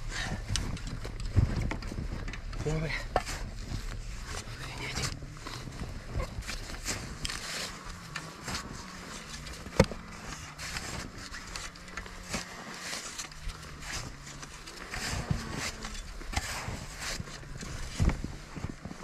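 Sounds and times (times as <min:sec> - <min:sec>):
snow shovel scraping and crunching: 0:00.0 - 0:19.0
steady engine drone: 0:00.0 - 0:19.0.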